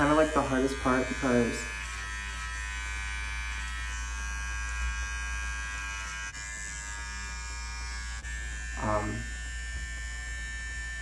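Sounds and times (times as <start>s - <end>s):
hair clippers buzzing: 0.0s - 11.0s.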